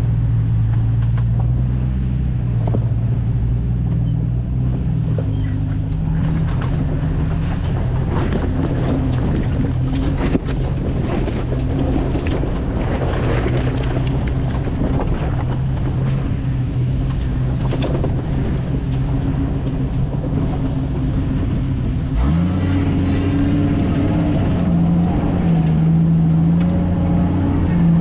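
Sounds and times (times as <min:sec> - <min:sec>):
off-road vehicle engine running: 0:00.0 - 0:28.0
knocks and rattles: 0:04.6 - 0:28.0.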